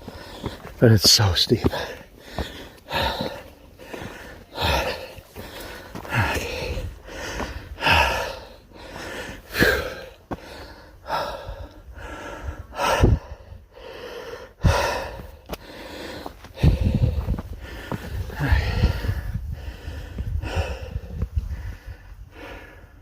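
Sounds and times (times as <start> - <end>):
man panting hard: 0.0 - 23.0.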